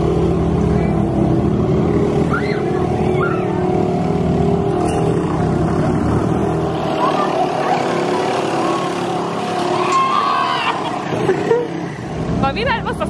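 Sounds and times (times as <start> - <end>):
small outboard motor running: 0.0 - 13.0.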